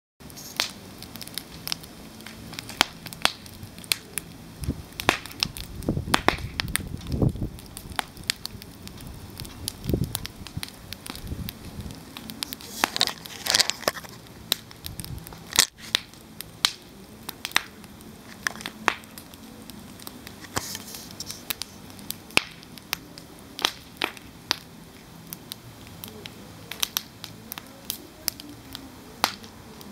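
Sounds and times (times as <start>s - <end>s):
wood fire crackling: 0.2s - 29.9s.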